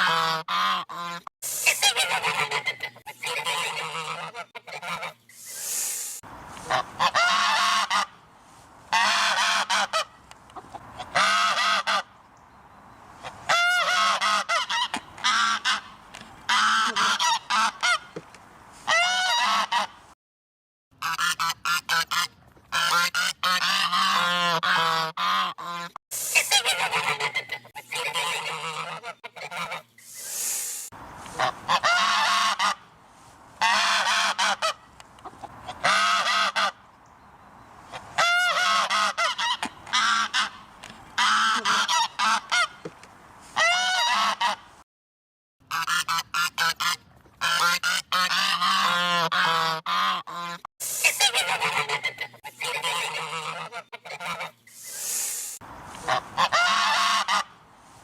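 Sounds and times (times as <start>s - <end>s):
geese honking: 0.0s - 5.3s, 6.6s - 8.2s, 8.9s - 12.1s, 13.5s - 18.1s, 18.9s - 20.0s, 21.0s - 30.4s, 31.2s - 33.0s, 33.6s - 36.8s, 37.9s - 42.8s, 43.6s - 44.6s, 45.7s - 55.0s, 55.9s - 57.6s.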